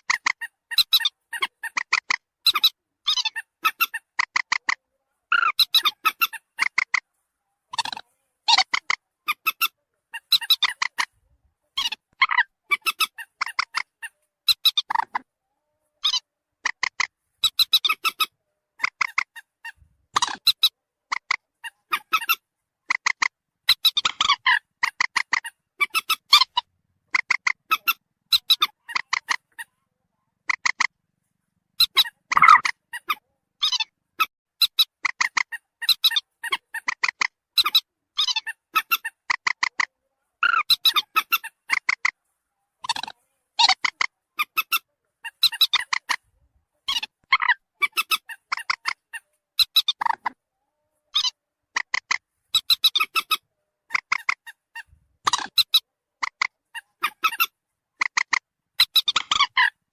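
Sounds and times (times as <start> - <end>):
moorhen calls: 0.0 - 7.1, 7.7 - 29.8, 30.4 - 31.0, 31.8 - 42.2, 42.8 - 59.9.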